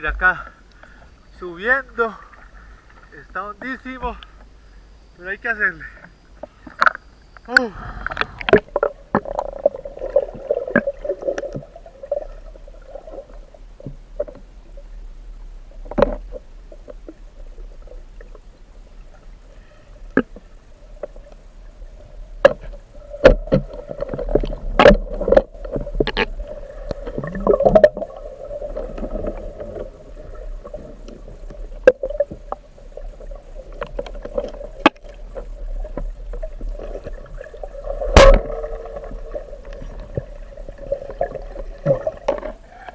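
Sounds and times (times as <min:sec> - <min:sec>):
underwater river hum: 0:00.0 - 0:42.9.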